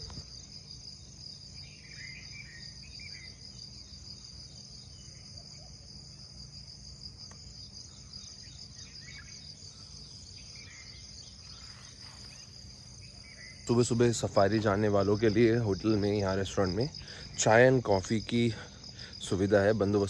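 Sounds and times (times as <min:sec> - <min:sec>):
insect chorus trilling: 0:00.0 - 0:20.0.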